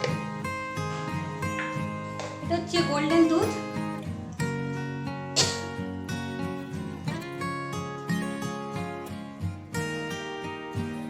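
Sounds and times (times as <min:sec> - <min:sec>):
plucked string instrument music: 0:00.0 - 0:11.0.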